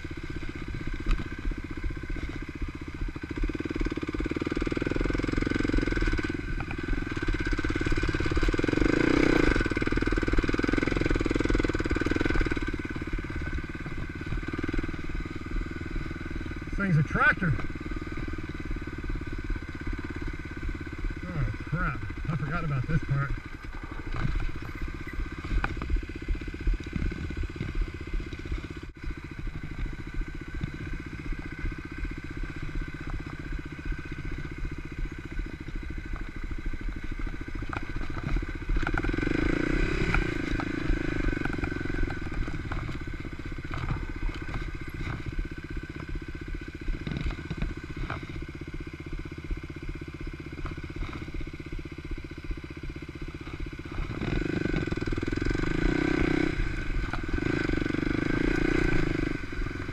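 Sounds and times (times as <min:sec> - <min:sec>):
dirt bike engine at low revs: 0:00.0 - 0:59.9.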